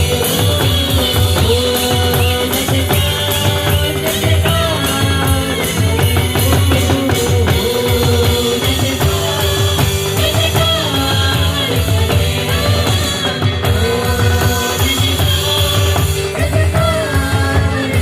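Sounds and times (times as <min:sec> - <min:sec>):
drum kit beat: 0:00.0 - 0:18.0
worship band music: 0:00.0 - 0:18.0.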